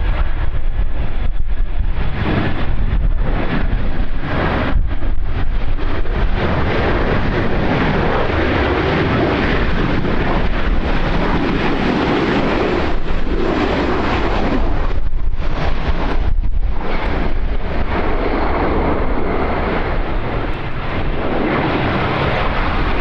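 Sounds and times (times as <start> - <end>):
aircraft engines rumbling: 0.0 - 23.0
wind buffeting microphone: 0.0 - 23.0.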